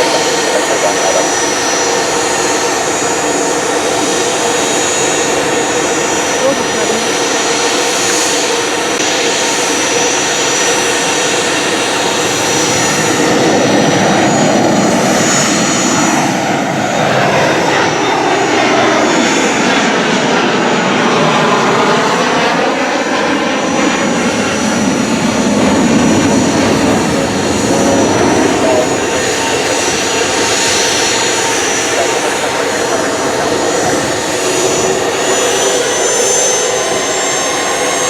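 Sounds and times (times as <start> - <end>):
jet engines passing by: 0.0 - 38.0.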